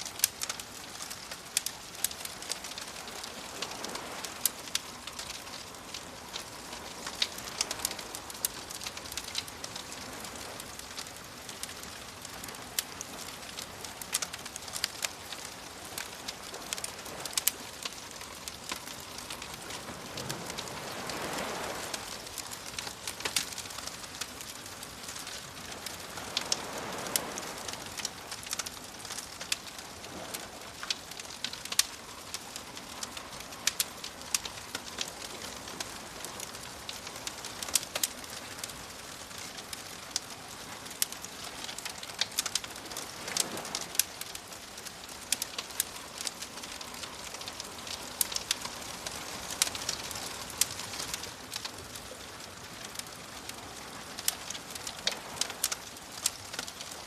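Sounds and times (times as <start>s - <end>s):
soft waves washing: 0.0s - 57.0s
wood fire crackling and popping: 0.0s - 57.0s.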